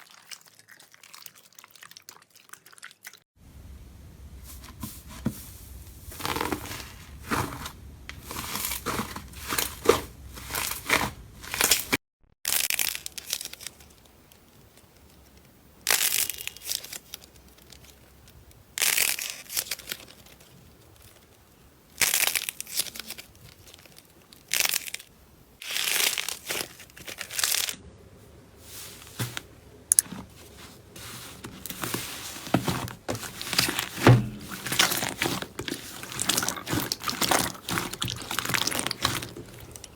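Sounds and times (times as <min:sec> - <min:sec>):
slime crackling and crinkling: 0:04.4 - 0:15.2, 0:15.9 - 0:27.8, 0:28.6 - 0:39.9.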